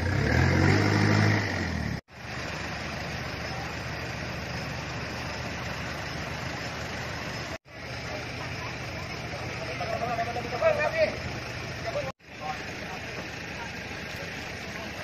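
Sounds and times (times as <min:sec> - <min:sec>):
road and engine noise: 0:00.0 - 0:15.0
vehicle engine humming loudly: 0:00.0 - 0:15.0.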